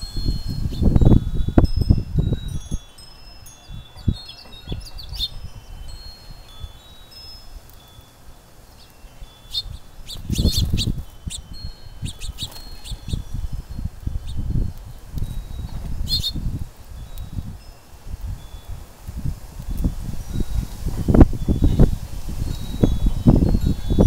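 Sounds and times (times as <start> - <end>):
wind buffeting microphone: 0.0 - 8.4, 9.0 - 24.0
metal wind chimes ringing: 0.0 - 24.0.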